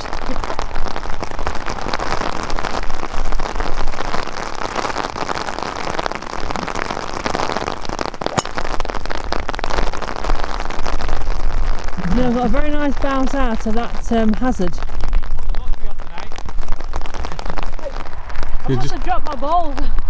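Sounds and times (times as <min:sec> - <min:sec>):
rain patter: 0:00.0 - 0:20.0.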